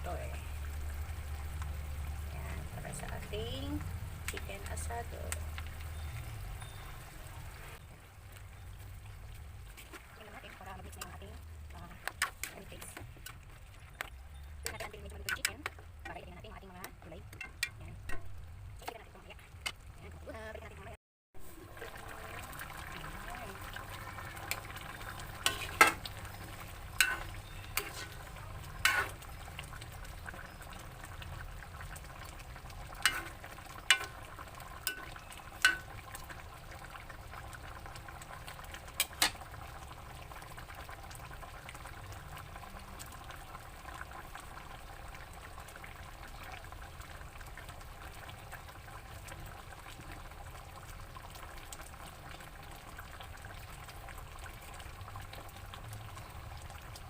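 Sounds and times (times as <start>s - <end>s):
sauce bubbling in a pan: 0.0s - 57.0s.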